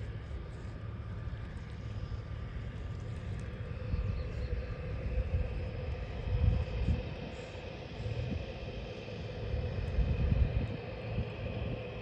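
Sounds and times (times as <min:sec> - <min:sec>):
floatplane engine running: 0:00.0 - 0:12.0.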